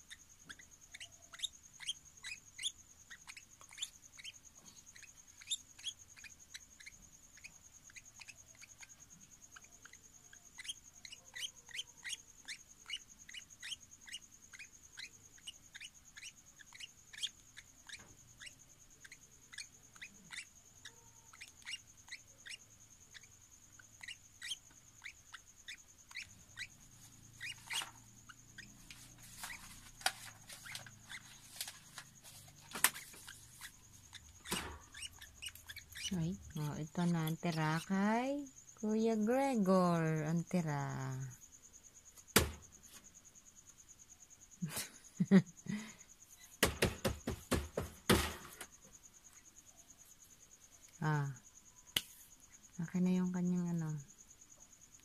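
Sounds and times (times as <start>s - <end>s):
bird feeding chirps: 0.0s - 44.2s.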